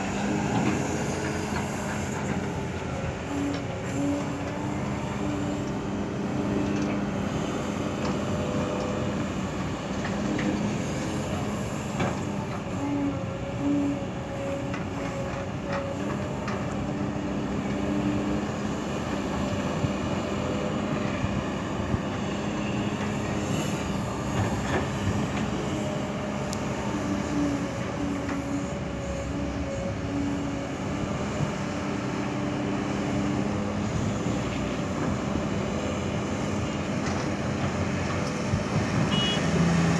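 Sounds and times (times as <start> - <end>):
heavy diesel machinery droning: 0.0 - 39.9.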